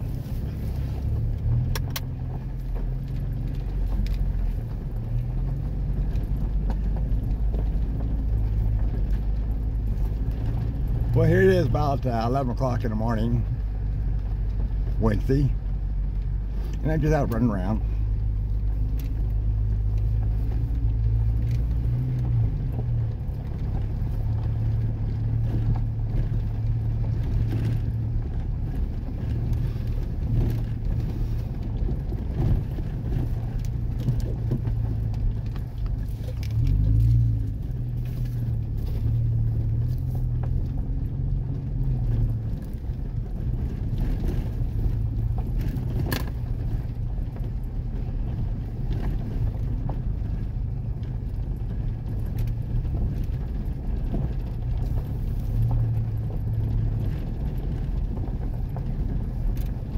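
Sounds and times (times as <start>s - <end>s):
engine and tyre rumble on gravel: 0.0s - 59.9s.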